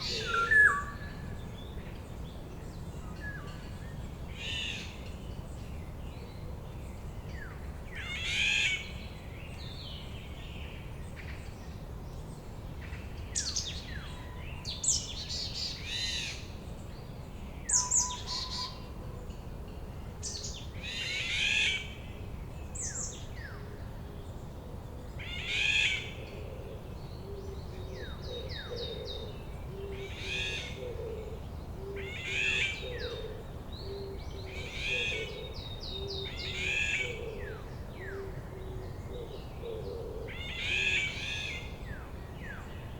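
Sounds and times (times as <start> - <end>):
wild birds singing and calling: 0.0 - 42.9.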